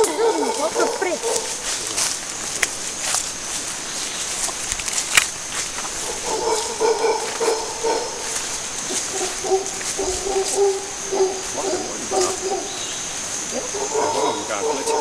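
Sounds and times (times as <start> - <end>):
howler monkeys howling: 0.0 - 3.0, 5.8 - 15.0.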